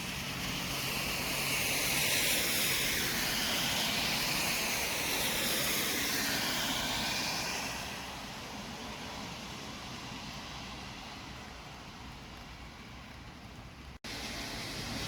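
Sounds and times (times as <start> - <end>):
vehicle tyre and road noise: 0.0 - 15.0.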